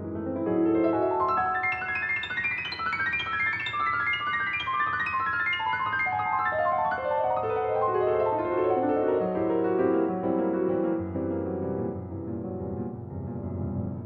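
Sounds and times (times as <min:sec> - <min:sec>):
piano notes cascading downward: 0:00.0 - 0:14.0.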